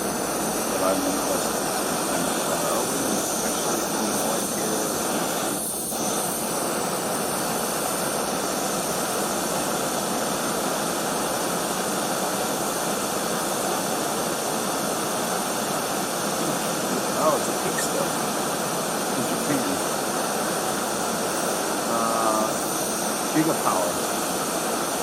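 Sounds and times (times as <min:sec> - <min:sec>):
gas stove burner hissing: 0:00.0 - 0:25.0.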